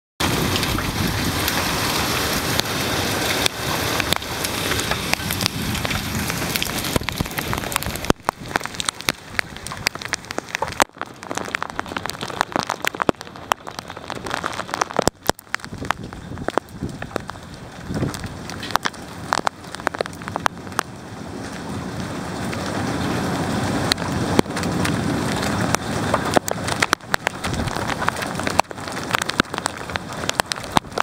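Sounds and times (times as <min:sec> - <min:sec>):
heavy rain hiss: 0:00.2 - 0:31.0
raindrops tapping: 0:00.2 - 0:31.0.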